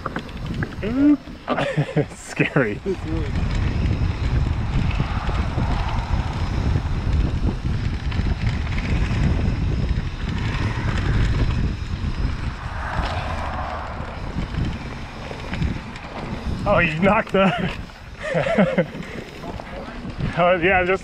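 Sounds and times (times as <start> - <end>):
bike tyres rumbling on dirt: 0.0 - 21.0
wind buffeting microphone: 0.0 - 21.0.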